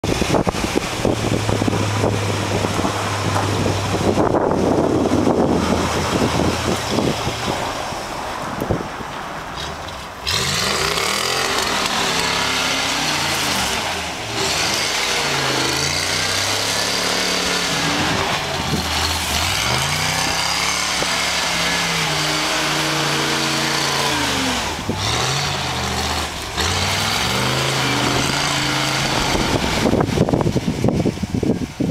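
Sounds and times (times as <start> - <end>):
car engine revving: 0.0 - 31.6.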